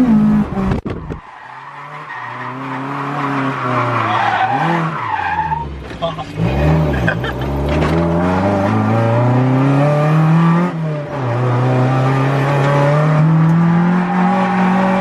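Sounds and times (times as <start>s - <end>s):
car engine revving hard: 1.9s - 15.0s.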